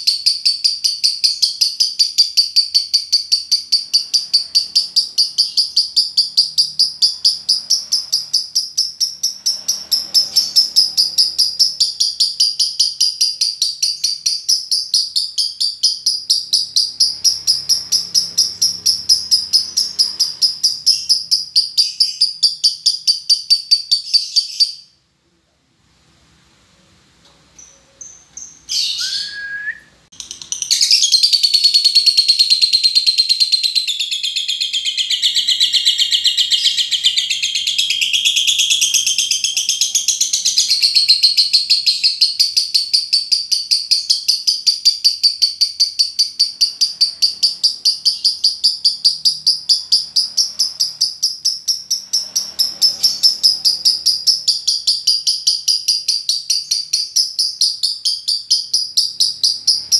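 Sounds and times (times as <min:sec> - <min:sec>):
bird chattering trill: 0:00.0 - 0:24.9, 0:27.6 - 0:59.9.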